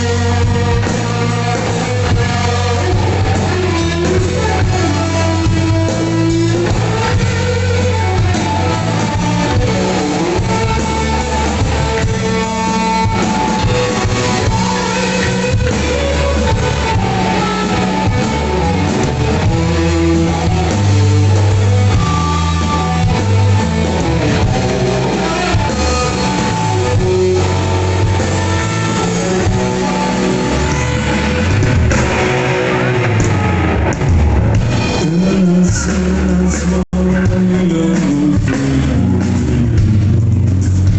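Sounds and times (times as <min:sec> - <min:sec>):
drum kit: 0:00.0 - 0:40.9
electric guitar: 0:00.0 - 0:40.9
heavy bass line: 0:00.0 - 0:40.9.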